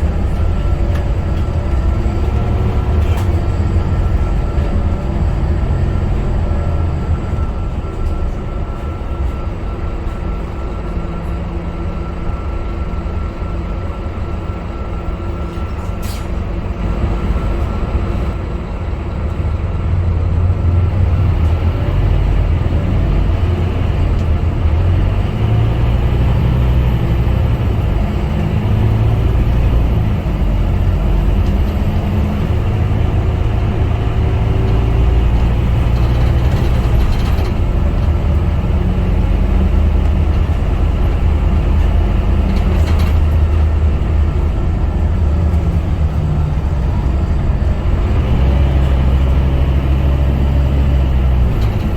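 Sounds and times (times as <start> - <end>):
bus diesel engine droning: 0.0 - 51.9.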